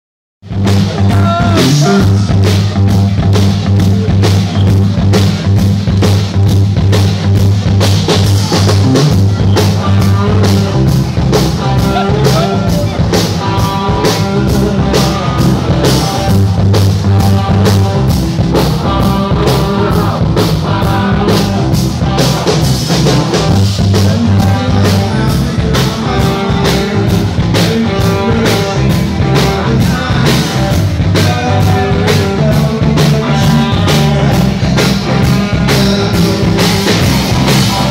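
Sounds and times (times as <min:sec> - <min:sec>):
rock band playing live: 0:00.4 - 0:37.9
steady drum beat: 0:00.4 - 0:37.9.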